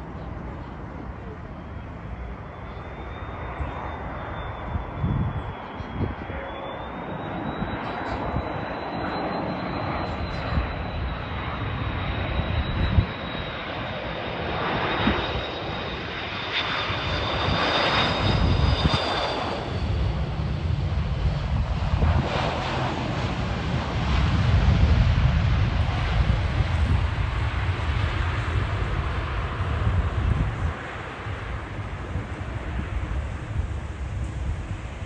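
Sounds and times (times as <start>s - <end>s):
jet engines whining and rumbling: 0.0s - 35.0s.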